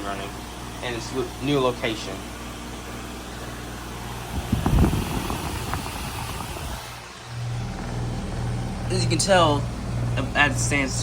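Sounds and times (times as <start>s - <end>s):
fan rushing: 0.0s - 11.0s
heat pump compressor hum: 0.0s - 11.0s.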